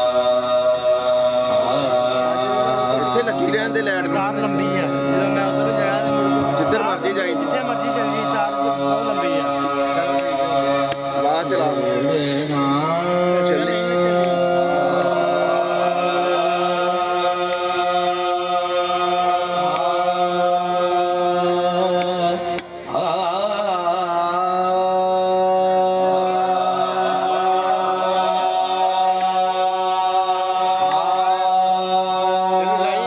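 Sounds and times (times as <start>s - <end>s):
harmonium chords: 0.0s - 33.0s
man singing ornamented line: 0.0s - 33.0s.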